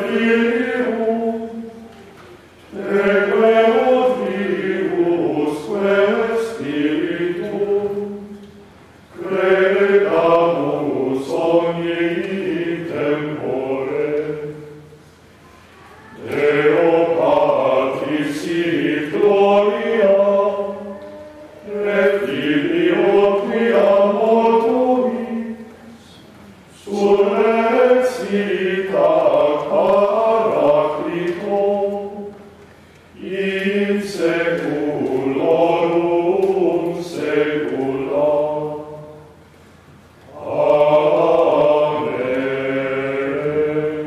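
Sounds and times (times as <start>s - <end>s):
choir singing plainchant: 0.0s - 39.7s, 40.3s - 44.0s.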